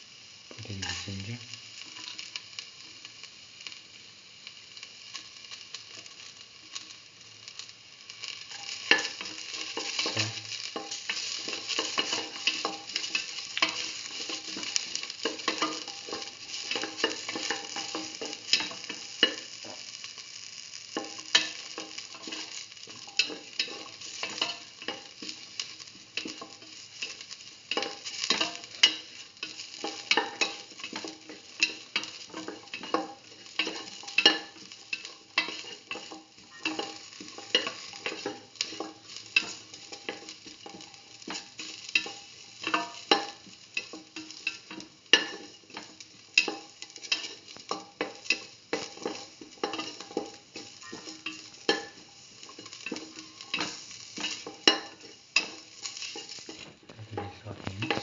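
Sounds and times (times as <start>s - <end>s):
vegetables sizzling in hot oil: 0.0s - 58.0s.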